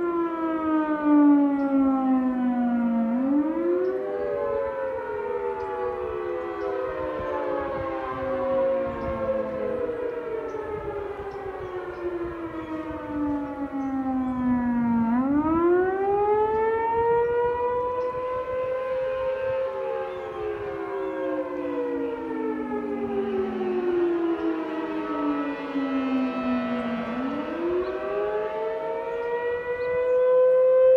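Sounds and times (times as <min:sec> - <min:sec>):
storm sirens wailing: 0:00.0 - 0:30.9.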